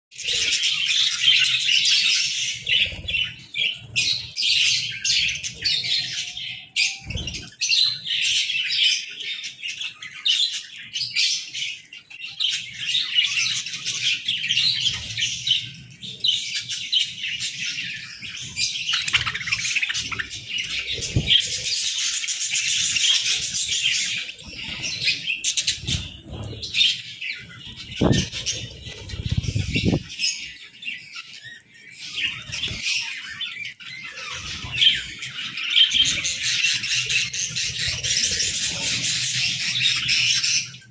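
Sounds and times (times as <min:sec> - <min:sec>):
budgerigars chattering and chirping: 0:00.2 - 0:40.9.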